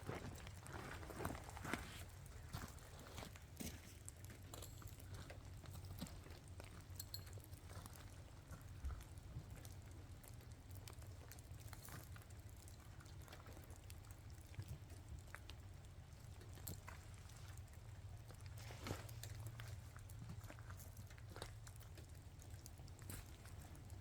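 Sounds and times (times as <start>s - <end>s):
low steady rumble: 0.0s - 24.0s
raindrops pattering: 0.0s - 24.0s.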